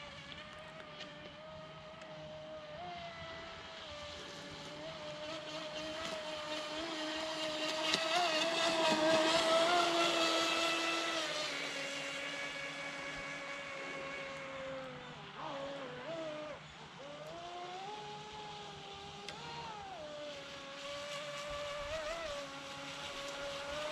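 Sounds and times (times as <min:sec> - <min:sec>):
electric motor whining: 0:00.2 - 0:23.9.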